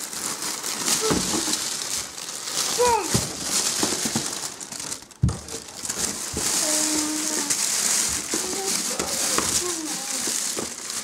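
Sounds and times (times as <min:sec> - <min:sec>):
plastic and cardboard crinkling: 0:00.0 - 0:11.0.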